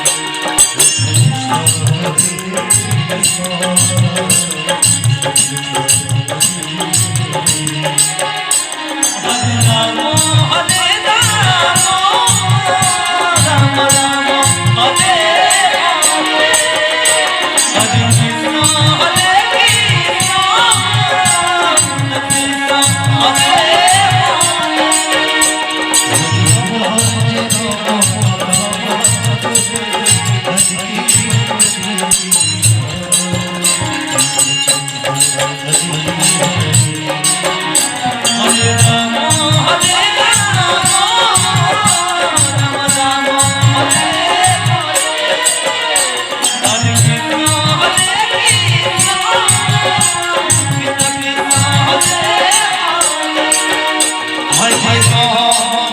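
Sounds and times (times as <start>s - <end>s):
drum beat: 0.0s - 55.9s
jingling percussion: 0.0s - 55.9s.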